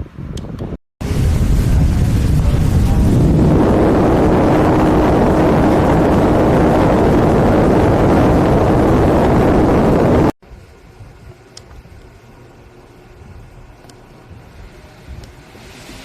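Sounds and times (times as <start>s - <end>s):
desk fan airflow rushing: 1.0s - 16.0s
faint motor hum: 1.6s - 15.9s.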